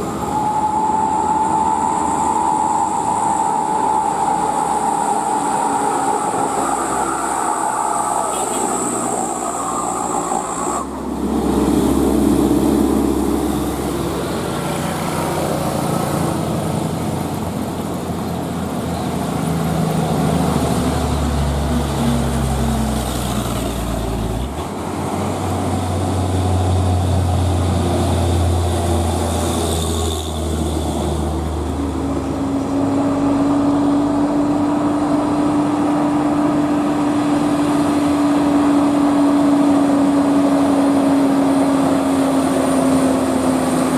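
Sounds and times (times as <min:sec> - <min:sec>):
truck engine running hard uphill: 0:00.0 - 0:43.9.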